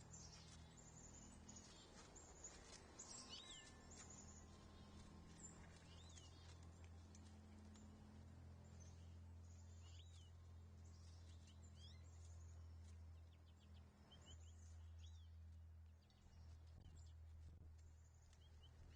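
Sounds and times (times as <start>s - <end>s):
faint birdsong chirps: 0.0s - 18.9s
low steady hum: 0.0s - 18.9s.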